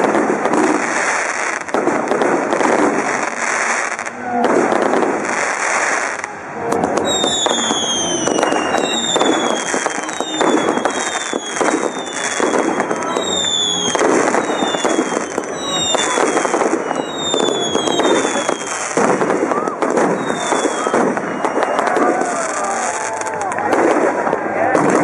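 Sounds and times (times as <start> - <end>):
fireworks crackling and popping: 0.0 - 25.0
whistling fireworks: 0.0 - 25.0.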